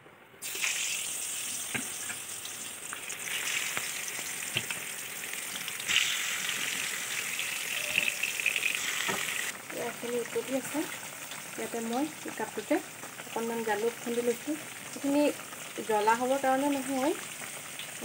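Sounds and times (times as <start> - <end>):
fish sizzling in hot oil: 0.4 - 18.0.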